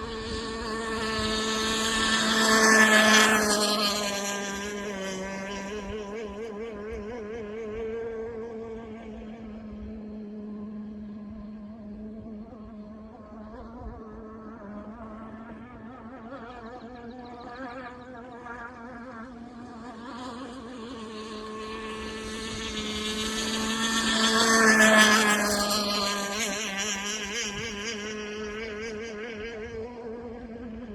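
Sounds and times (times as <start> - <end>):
rc boat engine drone: 0.0 - 30.9.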